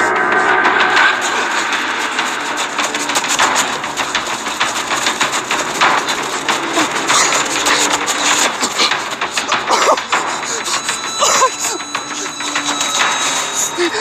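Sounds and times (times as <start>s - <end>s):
running footsteps in snow: 1.0s - 14.0s.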